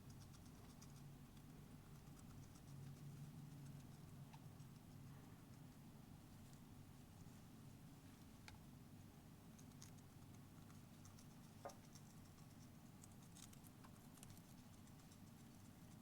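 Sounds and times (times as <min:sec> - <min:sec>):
hamster clicks and scratches: 0:00.0 - 0:06.7, 0:09.4 - 0:16.0
low steady hum: 0:00.0 - 0:16.0.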